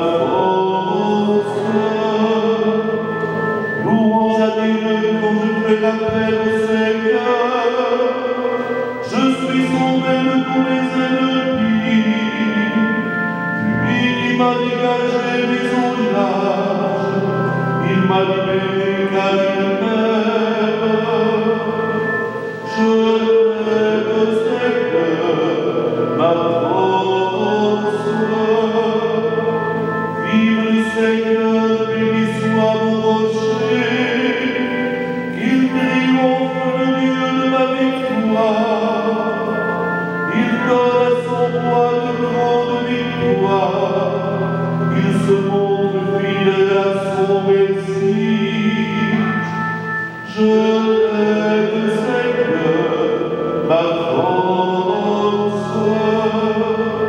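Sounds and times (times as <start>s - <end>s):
digital piano chords: 0.0s - 57.0s
man singing into a microphone: 0.0s - 57.0s.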